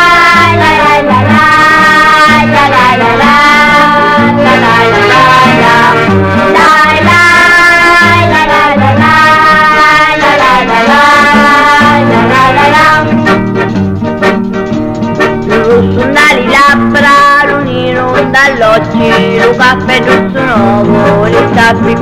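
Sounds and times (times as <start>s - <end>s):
held instrumental melody: 0.0s - 22.0s
plucked string accompaniment: 0.0s - 22.0s.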